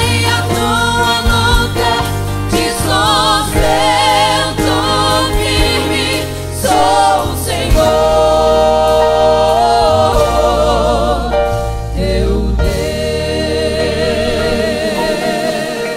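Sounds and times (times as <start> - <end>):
band with low bass notes: 0.0 - 15.9
vocal group singing in harmony: 0.0 - 15.9.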